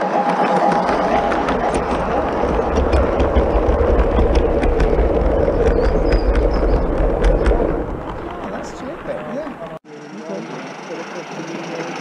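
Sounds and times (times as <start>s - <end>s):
model train wheels rumbling: 0.0s - 9.8s
wheels clicking over rail joints: 0.0s - 9.8s.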